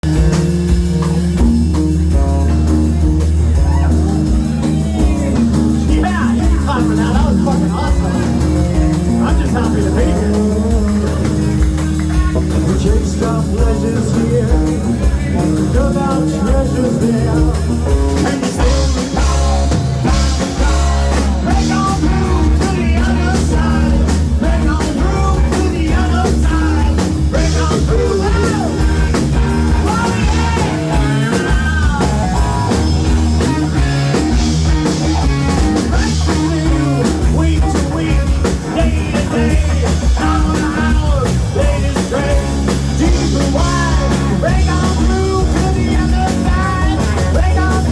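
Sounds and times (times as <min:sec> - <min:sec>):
bass line: 0:00.0 - 0:47.9
drum kit: 0:00.0 - 0:47.9
rock band playing: 0:00.0 - 0:47.9
person singing: 0:02.3 - 0:47.9.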